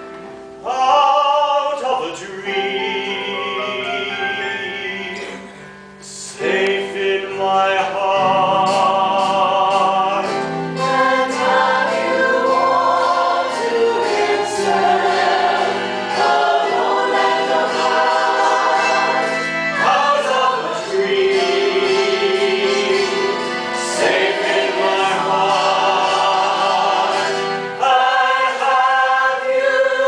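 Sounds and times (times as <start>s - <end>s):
musical backing: 0.0s - 30.0s
man and chorus singing: 0.7s - 30.0s.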